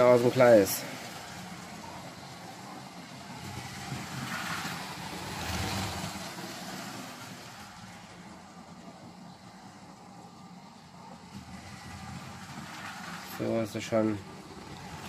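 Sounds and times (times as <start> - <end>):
toy train running on track: 0.0 - 15.0.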